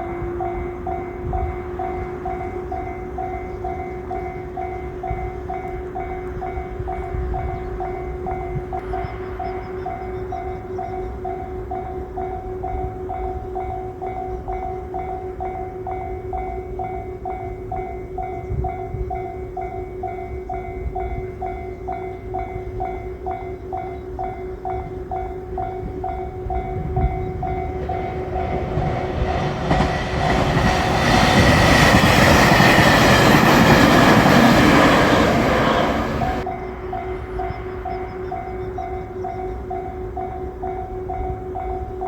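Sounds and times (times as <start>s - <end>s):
train passing: 0.0s - 42.0s.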